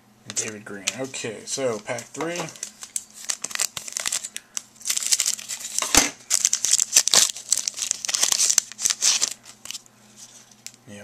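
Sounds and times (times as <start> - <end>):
foil wrapper crinkling: 0.4 - 10.8.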